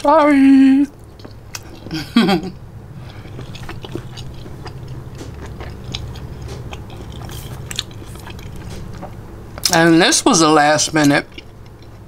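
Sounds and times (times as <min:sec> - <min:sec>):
low steady hum: 0:00.0 - 0:12.0
person chewing food: 0:00.9 - 0:09.8, 0:11.0 - 0:12.0.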